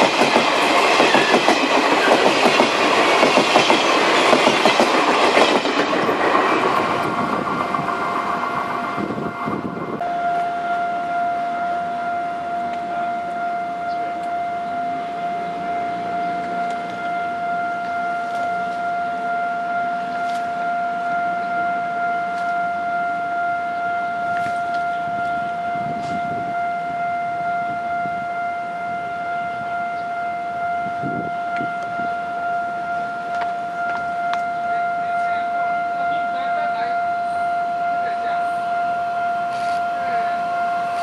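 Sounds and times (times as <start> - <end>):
level-crossing alarm tone: 0.0 - 41.0
train wheels rumbling: 0.0 - 41.0.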